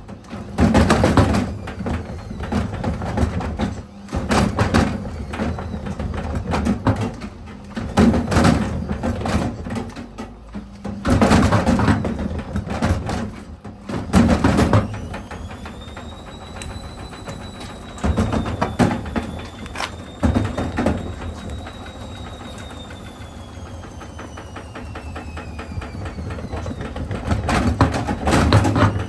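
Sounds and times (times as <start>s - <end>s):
washing machine motor whine: 0.0s - 29.0s.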